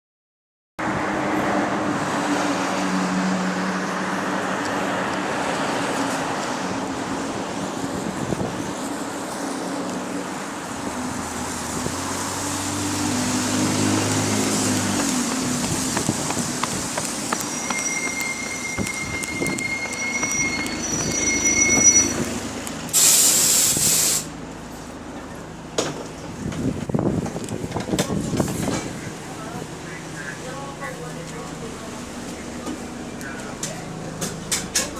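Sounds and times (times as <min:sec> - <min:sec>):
bus engine hum: 0:00.8 - 0:34.9.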